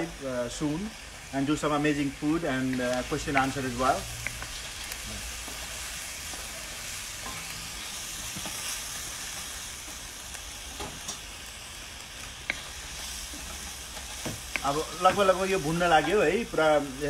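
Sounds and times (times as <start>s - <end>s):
meat sizzling in oil: 0.0s - 17.0s.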